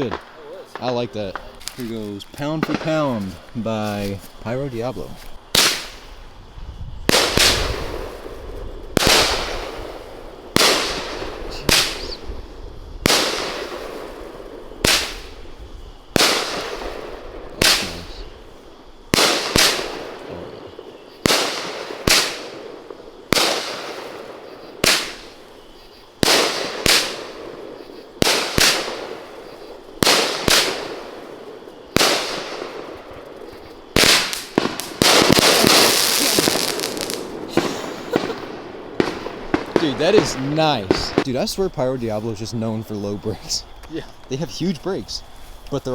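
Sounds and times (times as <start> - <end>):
firework shells bursting with bangs: 0.0 - 45.9.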